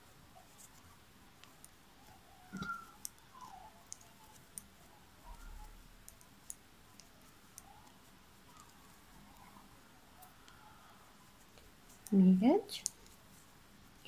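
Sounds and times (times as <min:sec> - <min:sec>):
knitting needles clicking: 0:00.5 - 0:14.0.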